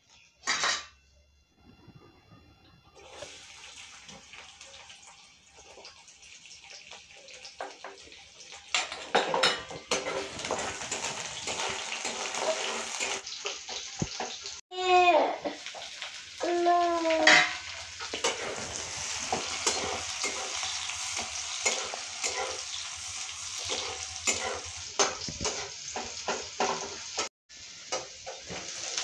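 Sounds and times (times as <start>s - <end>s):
ingredients frying in hot oil: 3.0s - 29.0s
oil sizzling in a pan: 3.0s - 29.0s.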